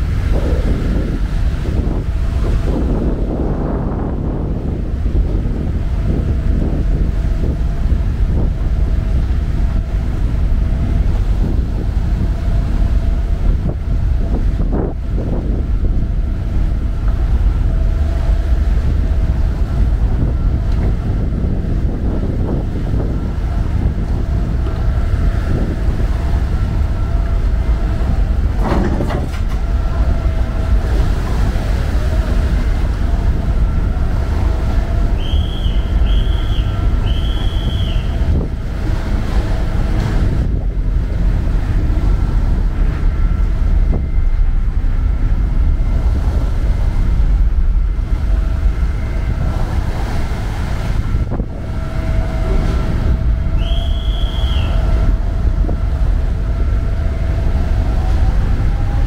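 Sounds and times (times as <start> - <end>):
ferry engines whining: 0.0 - 59.0
wind noise on microphone: 0.0 - 59.0.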